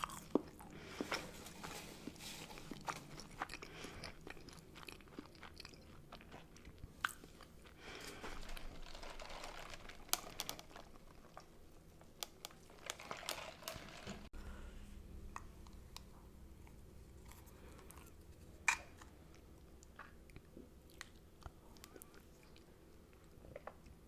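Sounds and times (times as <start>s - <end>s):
person chewing and crunching food: 0.0s - 14.0s, 15.3s - 24.0s.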